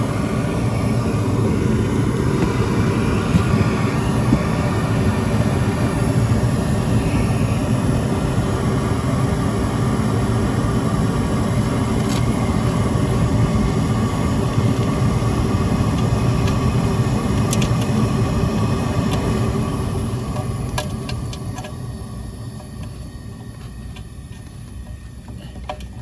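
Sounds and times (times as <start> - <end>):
air-conditioning unit rumble: 0.0 - 26.0
faint steady hum: 0.0 - 26.0.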